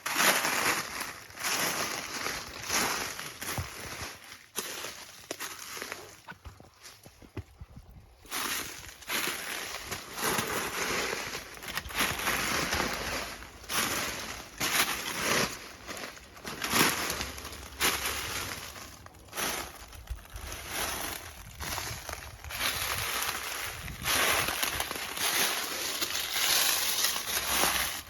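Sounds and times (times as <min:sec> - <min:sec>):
footsteps crunching on gravel: 0:00.0 - 0:28.0.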